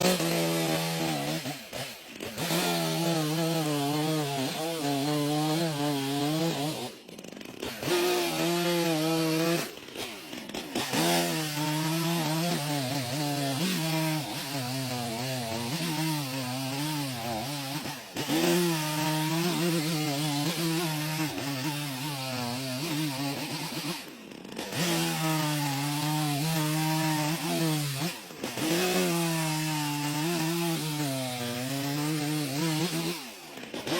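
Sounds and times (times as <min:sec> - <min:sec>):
chainsaw cutting timber: 0:00.0 - 0:33.9.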